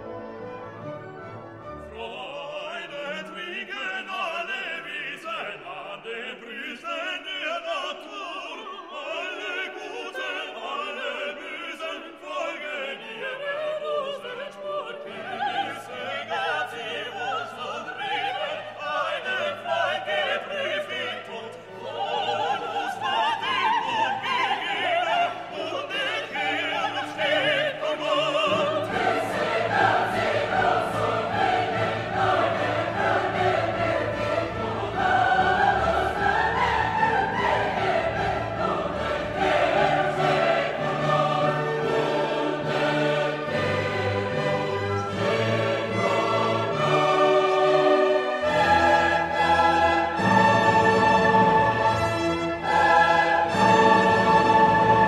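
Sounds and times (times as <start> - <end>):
choir singing: 0.0 - 55.0
classical orchestral music: 0.0 - 55.0
operatic singing voices: 1.8 - 55.0.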